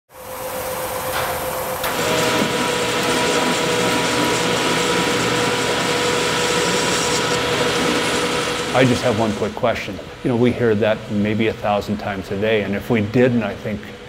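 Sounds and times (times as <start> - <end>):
milling machine cutting metal: 0.2 - 14.0.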